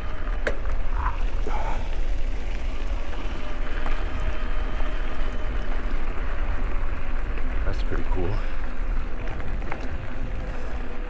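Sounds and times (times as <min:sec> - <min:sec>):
faint steady hum: 0:00.0 - 0:11.0
tyre noise on road: 0:00.0 - 0:11.0.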